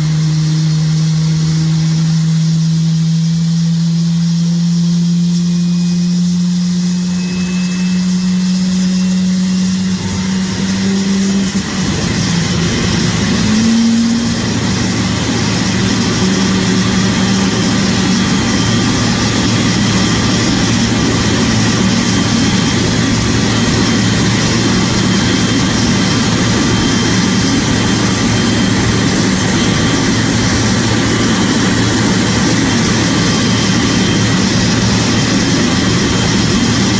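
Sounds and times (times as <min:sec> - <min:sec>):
jet engine roaring with whine: 0:00.0 - 0:36.9.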